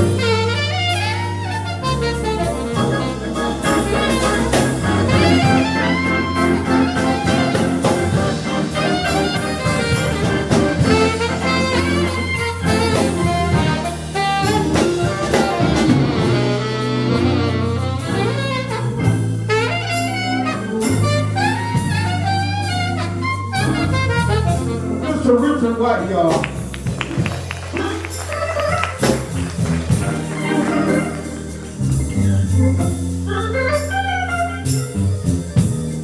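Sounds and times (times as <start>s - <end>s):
jazz with saxophone and brass: 0.0s - 36.0s.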